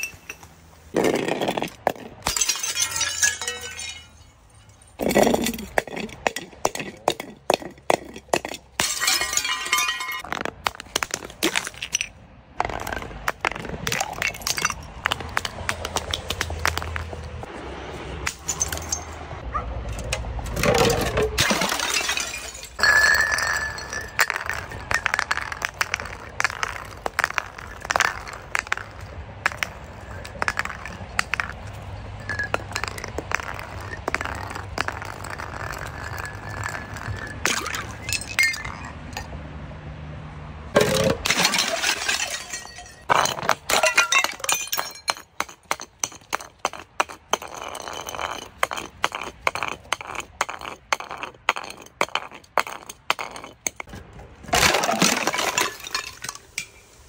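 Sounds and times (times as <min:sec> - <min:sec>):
glass bottles breaking: 0:01.0 - 0:12.1, 0:13.8 - 0:15.5, 0:20.6 - 0:39.3, 0:40.8 - 0:53.9, 0:54.5 - 0:56.8.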